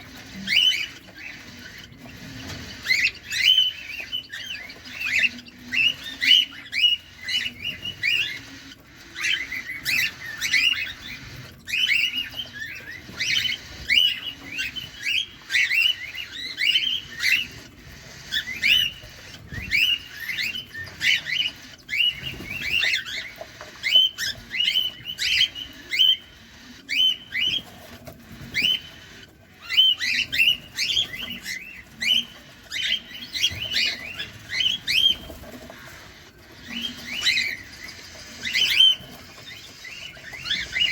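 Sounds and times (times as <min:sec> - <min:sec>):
cockatiels chirping: 0:00.0 - 0:40.9.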